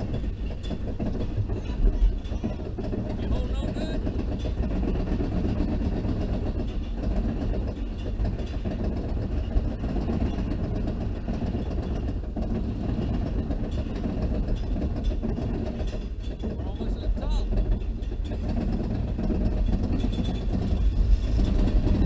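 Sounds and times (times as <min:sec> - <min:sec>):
roller coaster chain lift rumble: 0:00.0 - 0:22.0.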